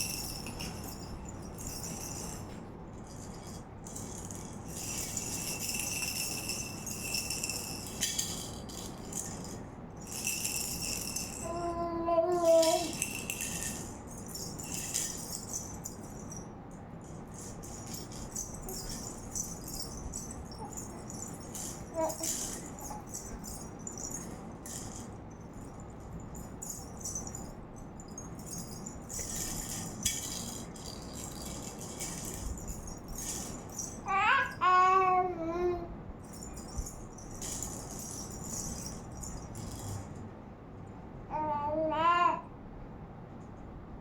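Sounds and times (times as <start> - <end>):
baby rattle shaking: 0.0 - 40.3.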